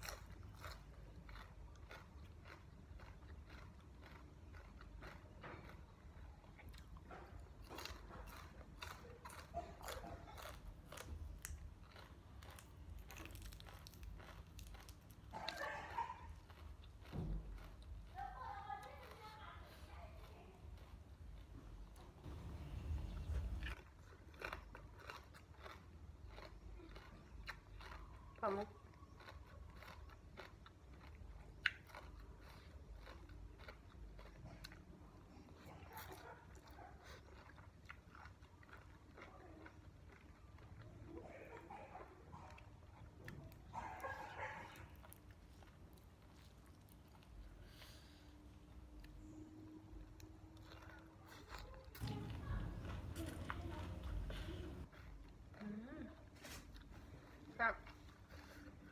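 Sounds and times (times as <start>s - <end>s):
person chewing and crunching food: 0.0s - 58.9s.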